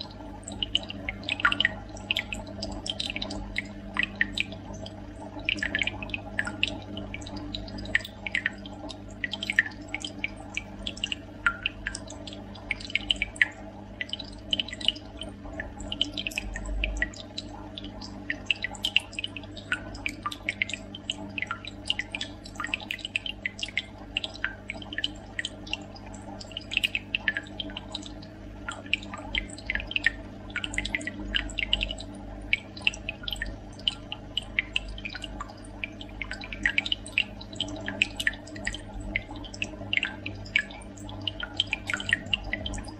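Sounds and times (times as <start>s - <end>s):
aquarium water trickling and dripping: 0.0s - 42.9s
small water splashes: 0.0s - 42.9s
steady low hum: 0.0s - 42.9s.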